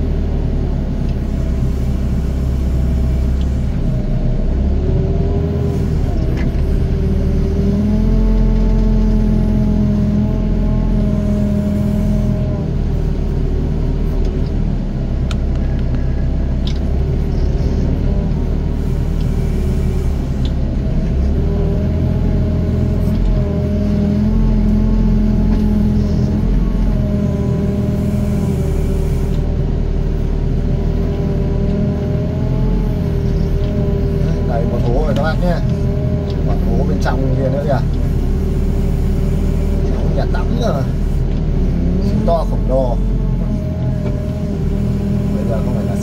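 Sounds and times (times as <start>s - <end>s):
excavator diesel engine under load: 0.0s - 46.0s.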